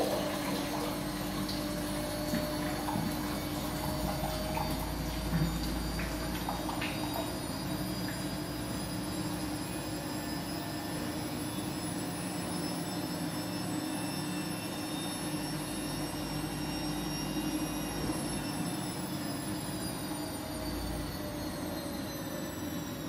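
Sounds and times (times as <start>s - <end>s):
washing machine motor whining: 0.0s - 23.0s.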